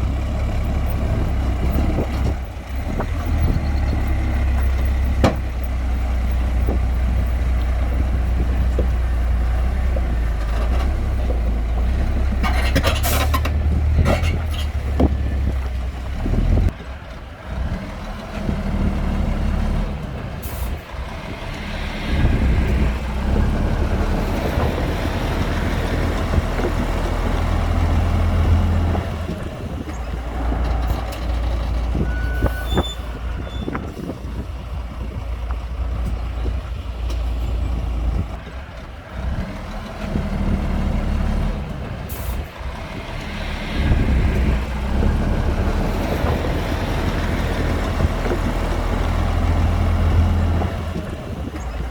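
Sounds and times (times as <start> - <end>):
diesel machinery engines droning: 0.0 - 51.9.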